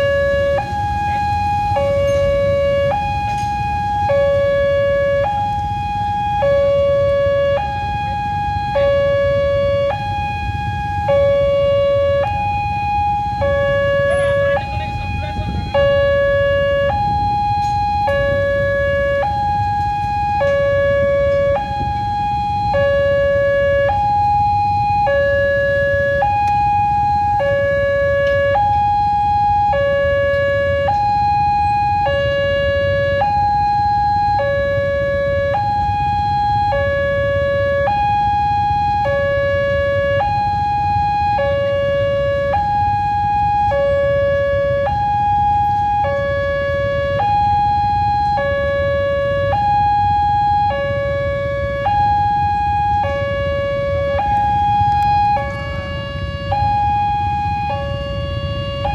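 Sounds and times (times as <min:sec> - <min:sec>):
two-tone level crossing alarm: 0:00.0 - 0:58.9.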